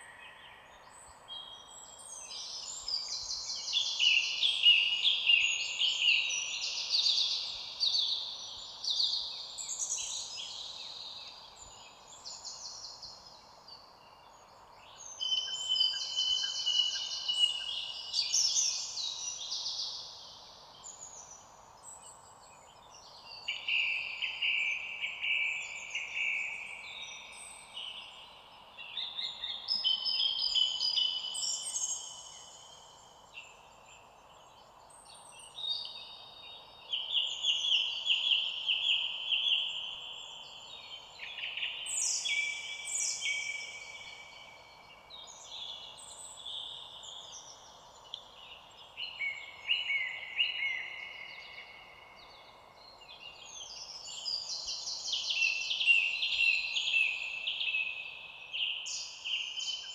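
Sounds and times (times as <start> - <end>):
faint steady background hiss: 0.0 - 59.9
songbirds trilling and chirping: 0.0 - 59.9.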